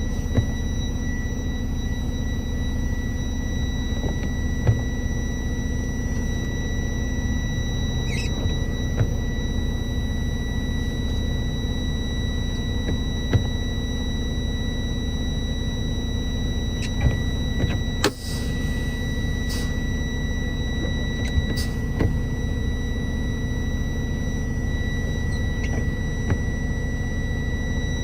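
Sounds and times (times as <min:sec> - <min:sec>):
high-pitched whine: 0:00.0 - 0:28.0.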